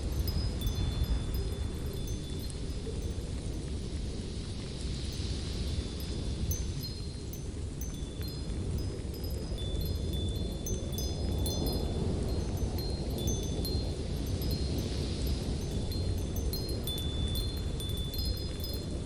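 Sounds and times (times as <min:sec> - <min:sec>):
wind chimes tinkling: 0:00.0 - 0:03.8, 0:05.7 - 0:19.0
light wind: 0:00.0 - 0:19.0.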